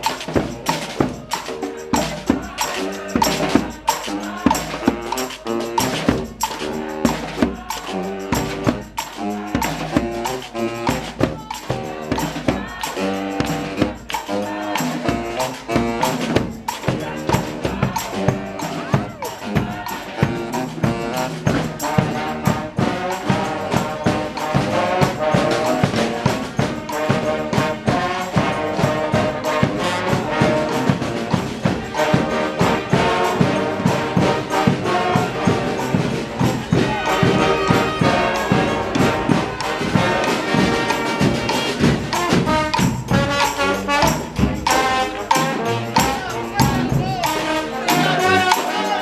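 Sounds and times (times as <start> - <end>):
brass band playing: 0.0 - 49.0
drum and percussion beat: 0.0 - 49.0.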